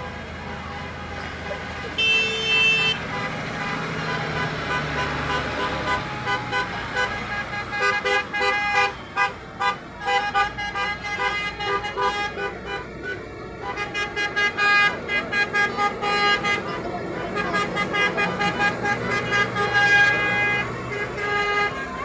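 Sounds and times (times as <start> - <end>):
low engine rumble: 0.0 - 22.0
tractor horns tooting: 0.0 - 22.0.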